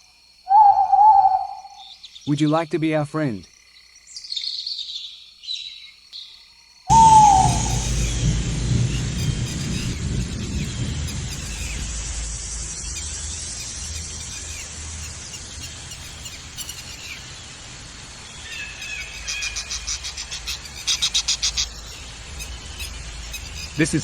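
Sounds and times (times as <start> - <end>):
birds calling in jungle: 0.0 - 24.0
bird rapid repeated calls: 0.5 - 2.7, 6.9 - 24.0.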